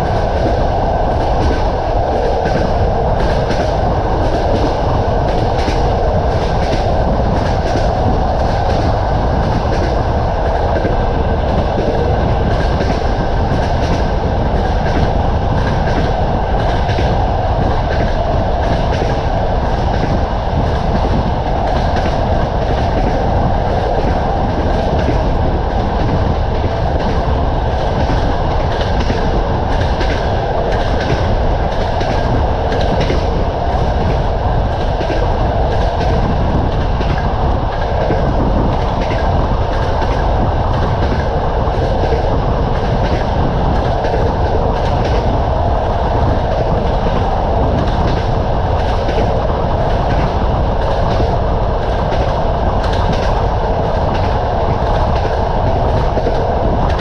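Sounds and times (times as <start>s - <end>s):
train rumble: 0.0s - 57.0s
train wheels clacking on rails: 0.0s - 57.0s.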